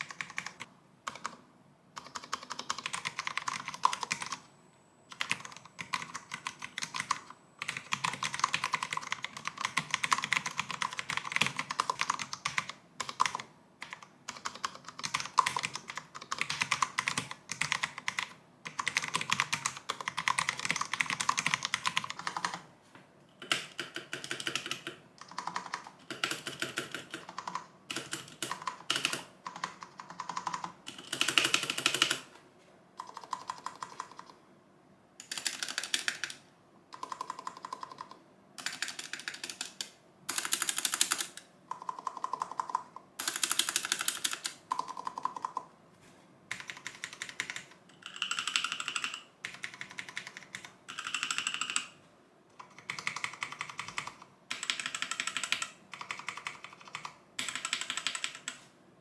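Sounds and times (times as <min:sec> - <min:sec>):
fast keyboard typing: 0:00.0 - 0:01.4, 0:02.0 - 0:04.5, 0:05.1 - 0:22.7, 0:23.4 - 0:32.3, 0:33.0 - 0:34.4, 0:35.2 - 0:45.7, 0:46.5 - 0:58.7.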